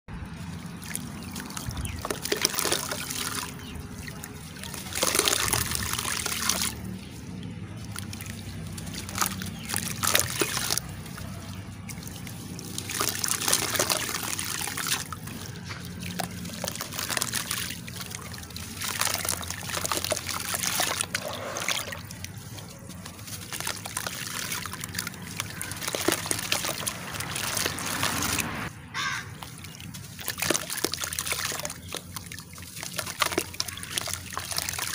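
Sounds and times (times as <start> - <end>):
charcoal crushed in water: 0.7 - 7.0, 7.7 - 28.5, 29.2 - 34.9.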